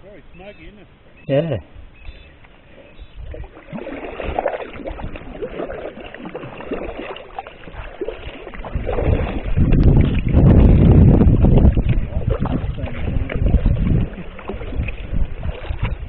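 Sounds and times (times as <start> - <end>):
water splashing against kayak hull: 2.1 - 16.0.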